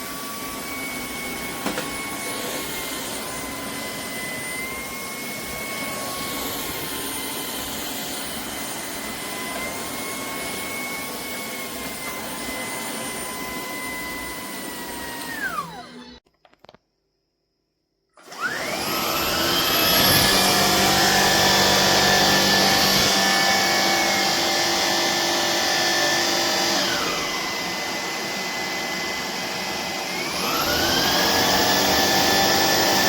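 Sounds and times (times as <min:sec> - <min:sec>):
vacuum motor whining: 0:00.0 - 0:16.3, 0:18.2 - 0:33.0.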